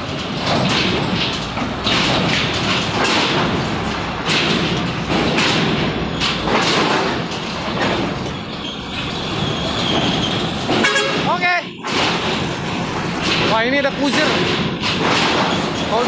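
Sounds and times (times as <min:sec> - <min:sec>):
truck wheels thudding on steel ramp: 0:00.0 - 0:16.0.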